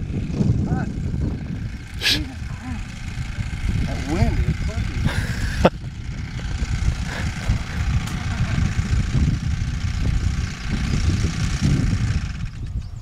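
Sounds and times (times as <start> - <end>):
model plane engine idling: 0.0 - 13.0
wind on microphone: 0.0 - 13.0.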